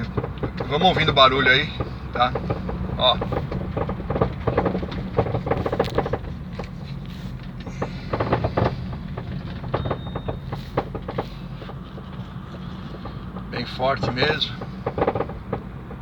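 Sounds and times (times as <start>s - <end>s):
road and engine rumble: 0.0s - 16.0s
suspension knocking and clunking: 0.0s - 16.0s.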